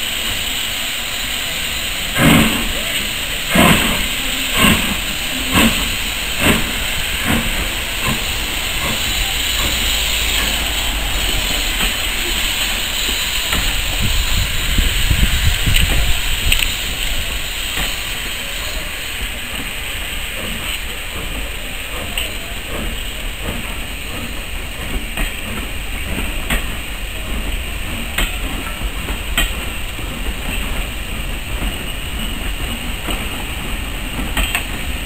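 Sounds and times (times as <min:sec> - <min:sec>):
hiss of steam: 0:00.0 - 0:35.0
rumble of carriages rolling: 0:00.0 - 0:35.0
steam locomotive exhaust beats: 0:00.0 - 0:35.0.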